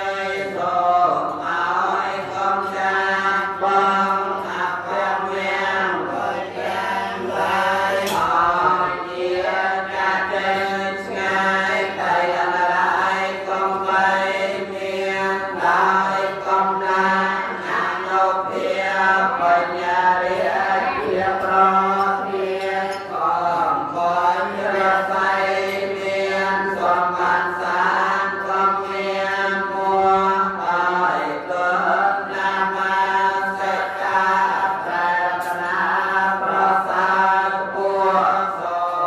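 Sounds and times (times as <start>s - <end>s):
voices chanting: 0.0s - 39.0s.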